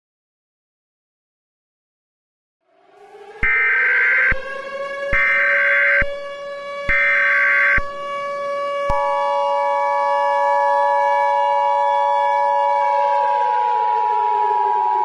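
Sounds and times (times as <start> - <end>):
siren tone: 2.6 - 15.0.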